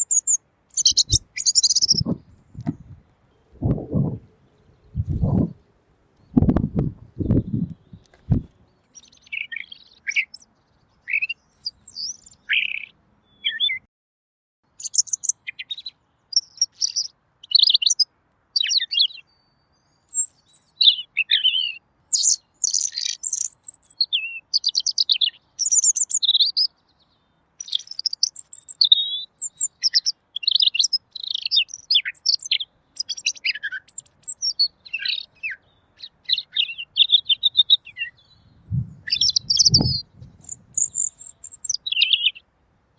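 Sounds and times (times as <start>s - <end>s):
bird singing chirps and trills: 0.0s - 13.8s, 14.7s - 42.5s.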